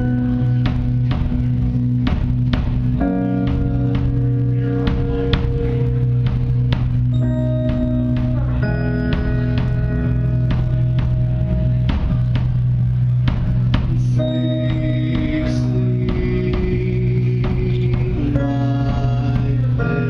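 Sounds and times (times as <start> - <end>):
drum hits: 0.0 - 20.0
keyboard chords: 0.0 - 20.0
steady bass note: 0.0 - 20.0.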